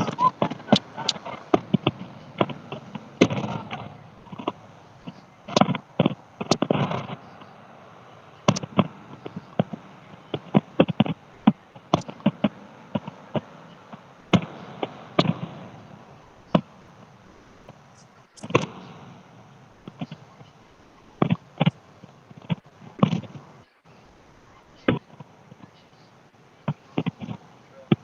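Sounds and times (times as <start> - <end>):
fireworks cracking and popping: 0.0 - 20.6, 21.2 - 23.7, 26.6 - 28.0
fireworks bangs: 0.0 - 23.7.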